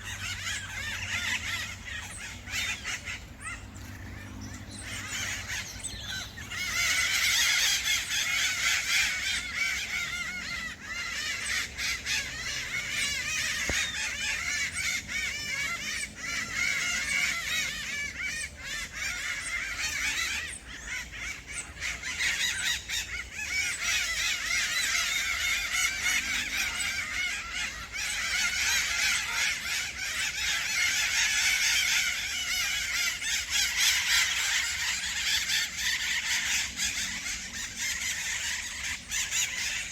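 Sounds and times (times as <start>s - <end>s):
parrots squawking: 0.0s - 39.9s.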